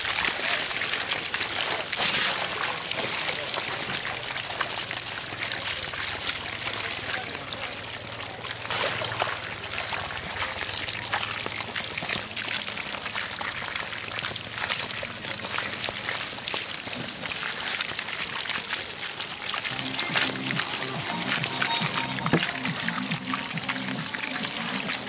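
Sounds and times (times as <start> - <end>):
trickling water: 0.0 - 25.0.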